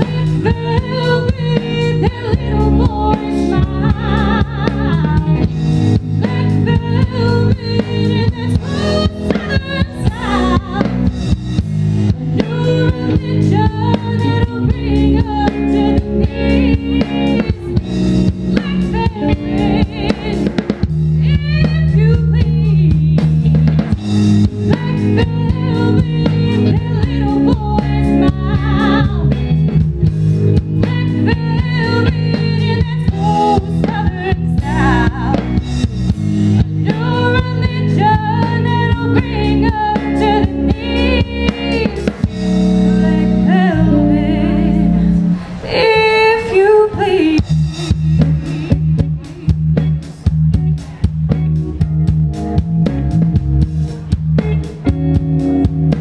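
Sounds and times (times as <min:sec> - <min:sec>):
woman singing lead: 0:00.0 - 0:51.5
drum kit: 0:00.0 - 0:56.0
electric guitars: 0:00.0 - 0:56.0.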